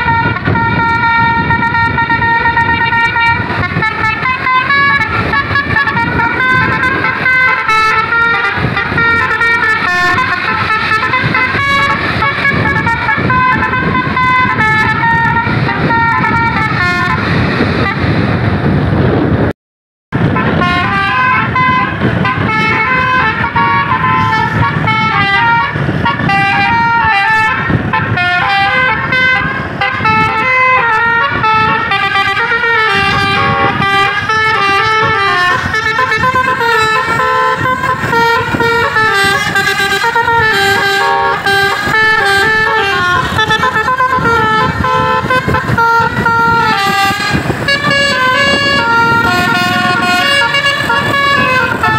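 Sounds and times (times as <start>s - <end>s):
multi-tone musical air horn: 0.0s - 18.4s, 20.2s - 51.9s.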